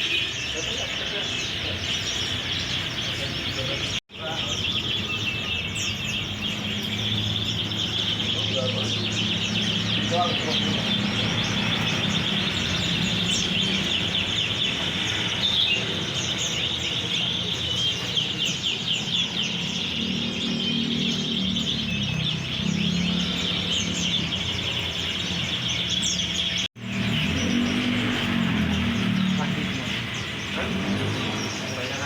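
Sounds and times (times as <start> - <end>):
songbirds chirping and twittering: 0.0 - 32.0.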